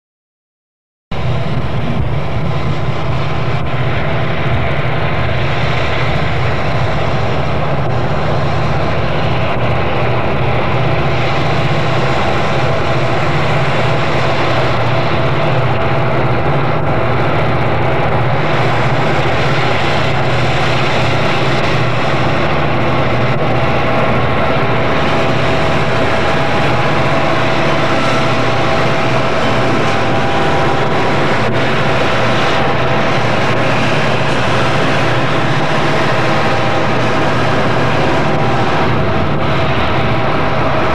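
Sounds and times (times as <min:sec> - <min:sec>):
diesel locomotives passing: 0:01.1 - 0:40.9.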